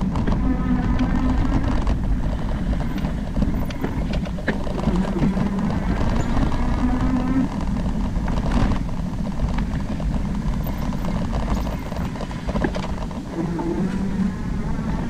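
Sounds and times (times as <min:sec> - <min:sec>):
bike clattering over ground: 0:00.0 - 0:13.4
bike low rumble: 0:00.0 - 0:15.0.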